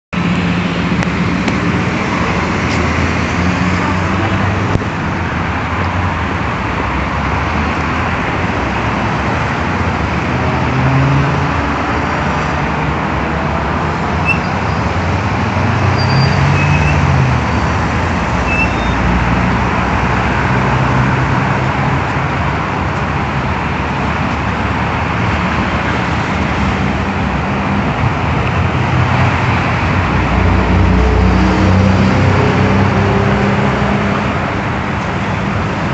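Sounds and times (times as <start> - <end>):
road traffic: 0.1 - 35.9
street-sweeper engine and suction fan: 0.2 - 35.9.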